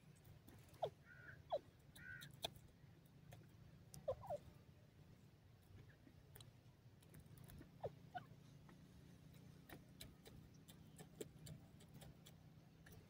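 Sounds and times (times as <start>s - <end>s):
bird pecking in sandy soil: 0.0s - 13.0s.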